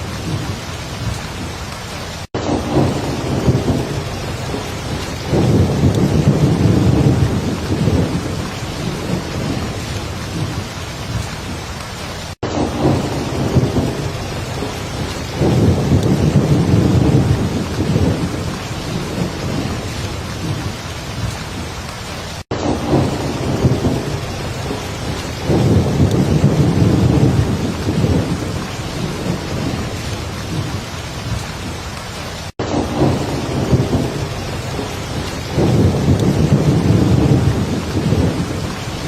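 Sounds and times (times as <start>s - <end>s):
low rolls of thunder: 0.0s - 11.6s, 12.4s - 21.7s, 22.6s - 31.7s, 32.6s - 39.0s
heavy rain: 0.0s - 39.0s.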